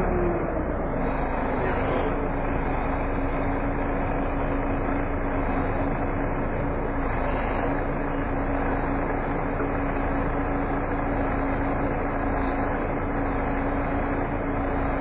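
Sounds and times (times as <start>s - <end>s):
bus road and engine noise: 0.0s - 15.0s
cooling fan whine: 0.0s - 15.0s.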